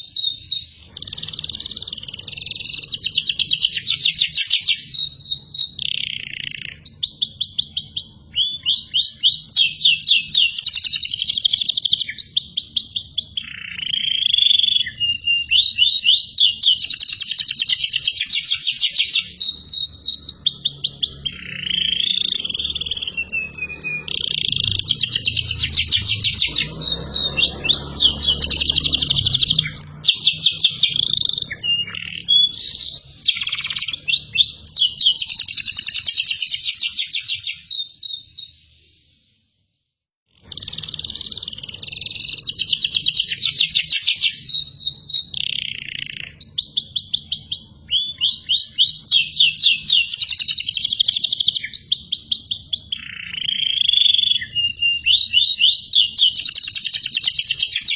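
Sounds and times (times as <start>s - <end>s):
canary singing: 0.0s - 39.4s, 40.4s - 57.9s.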